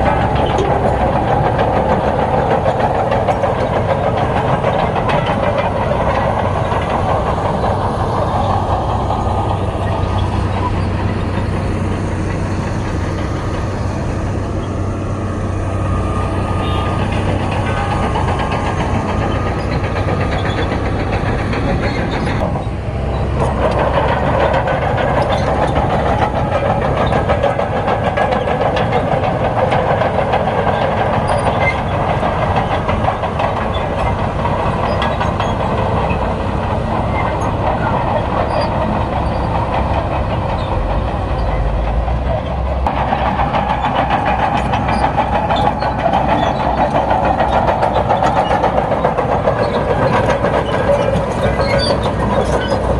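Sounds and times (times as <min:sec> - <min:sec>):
diesel engine under load: 0:00.0 - 0:52.9
steel tracks clattering: 0:00.0 - 0:52.9.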